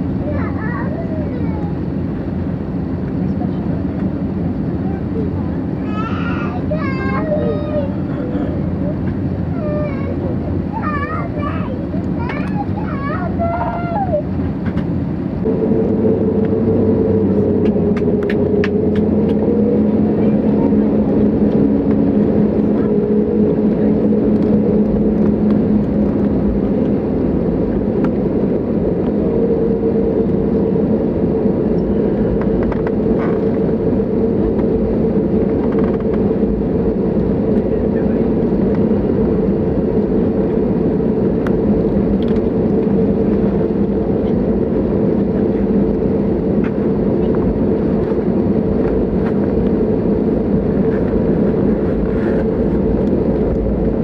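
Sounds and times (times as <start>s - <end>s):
aircraft cabin engine rumble: 0.0s - 54.0s
higher hum: 4.2s - 54.0s.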